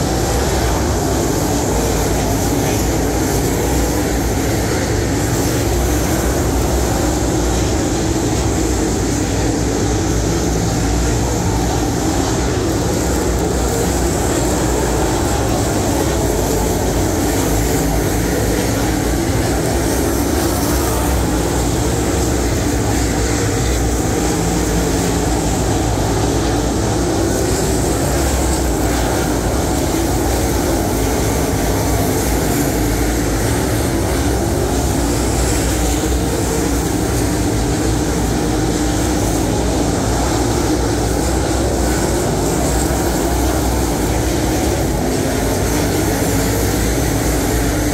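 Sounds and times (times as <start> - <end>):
race car engines droning: 0.0 - 47.9.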